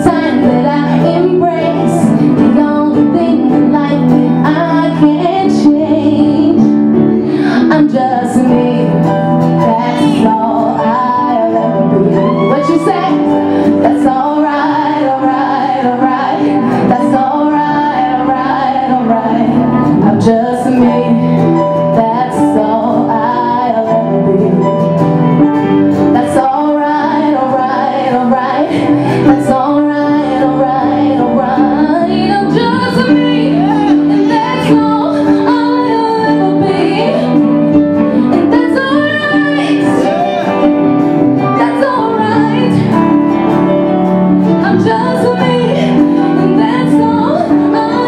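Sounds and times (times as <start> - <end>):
woman singing: 0.0 - 25.0, 26.0 - 40.4, 41.4 - 43.4, 44.5 - 48.0
bass guitar: 0.0 - 48.0
electric guitar: 0.0 - 48.0.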